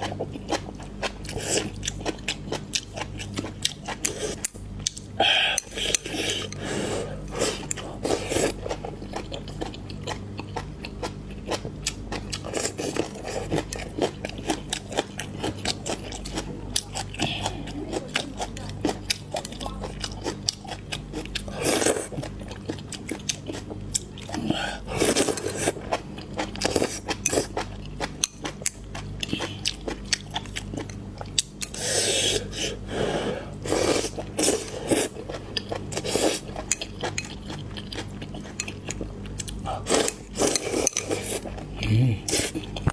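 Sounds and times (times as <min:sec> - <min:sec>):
faint low hum: 0:00.0 - 0:42.9
person chewing and crunching food: 0:00.0 - 0:42.9.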